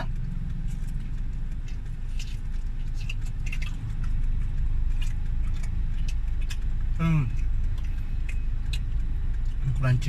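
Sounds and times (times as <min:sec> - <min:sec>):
car interior rumble: 0:00.0 - 0:10.0
chewing: 0:00.0 - 0:10.0.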